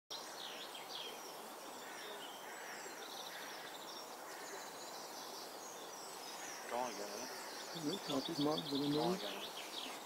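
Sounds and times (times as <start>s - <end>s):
background hiss: 0.1s - 10.0s
songbirds chirping and singing: 0.1s - 10.0s.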